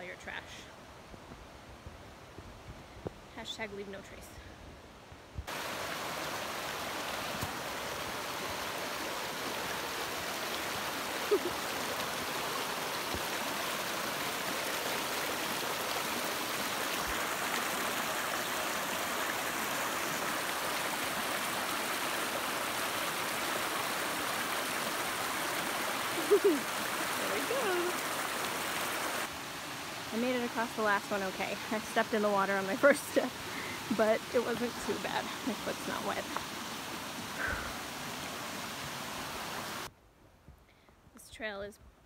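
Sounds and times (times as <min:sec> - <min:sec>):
stream rushing over rocks: 0:05.4 - 0:39.9.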